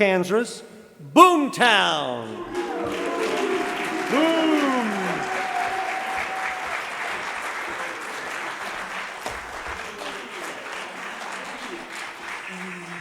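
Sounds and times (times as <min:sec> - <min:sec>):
audience applauding: 0:02.2 - 0:13.0.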